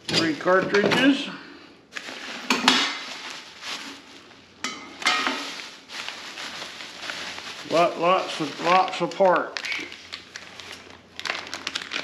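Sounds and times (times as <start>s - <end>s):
plastic wrapping rustling: 1.9s - 12.0s.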